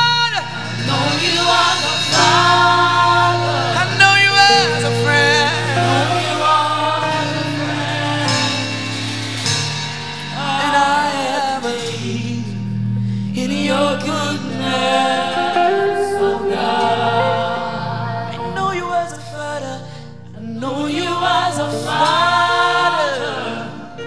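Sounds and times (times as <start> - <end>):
keyboard chords: 0.0 - 24.0
voices singing gospel: 0.0 - 24.0.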